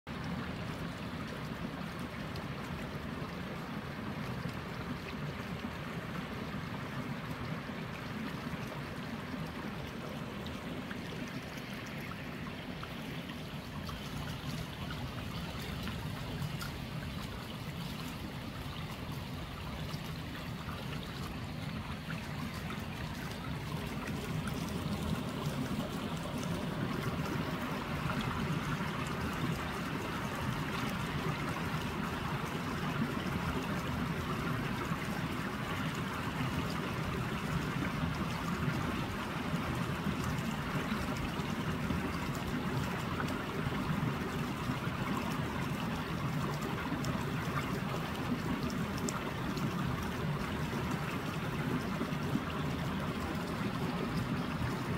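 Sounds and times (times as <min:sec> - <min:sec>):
stream running over rocks: 0:00.1 - 0:54.9.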